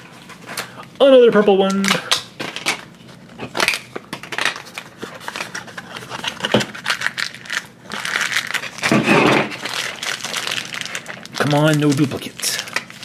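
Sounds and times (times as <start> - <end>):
plastic packaging crackling: 1.9 - 13.0
foil wrapper crinkling: 2.1 - 13.0.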